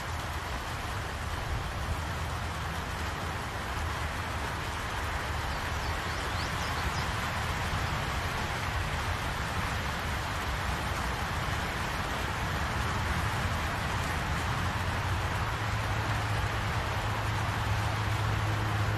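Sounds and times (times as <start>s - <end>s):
low constant rumble: 0.0s - 18.9s
rain falling on trees: 0.0s - 18.9s.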